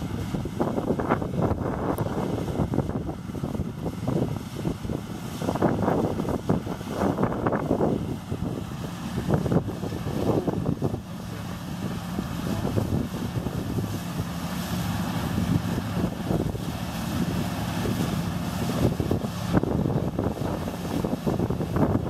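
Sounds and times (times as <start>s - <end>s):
combine harvester engine hum: 0.0s - 22.0s
wind gusting on microphone: 0.0s - 22.0s.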